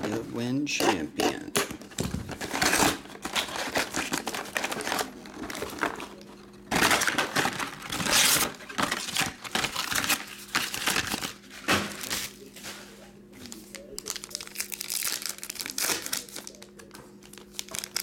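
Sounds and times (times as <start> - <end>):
foil wrappers crinkling: 2.0 - 18.0.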